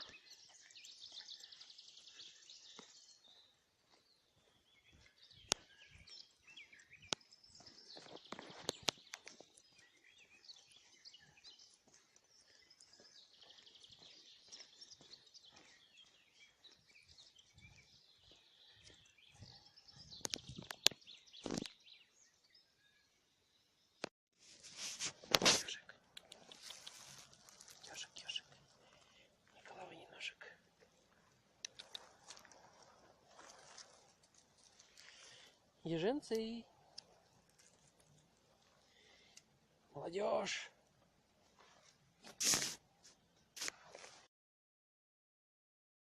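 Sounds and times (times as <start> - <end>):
songbirds singing: 0.0 - 24.1, 25.6 - 41.8.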